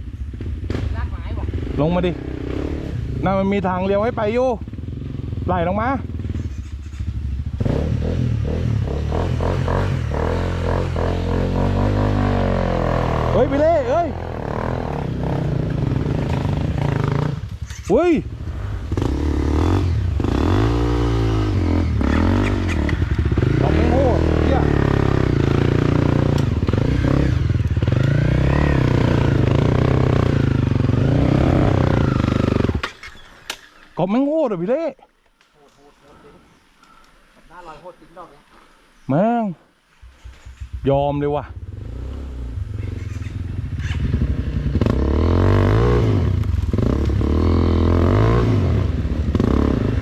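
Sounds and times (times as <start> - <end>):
off-road vehicle engine revving: 0.0 - 33.1, 40.0 - 50.0.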